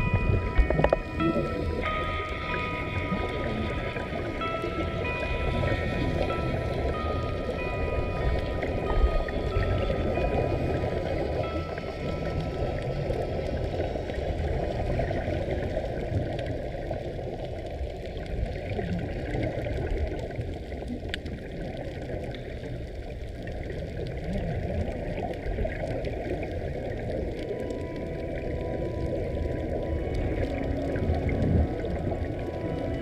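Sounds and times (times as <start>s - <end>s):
underwater rushing water: 0.0s - 33.0s.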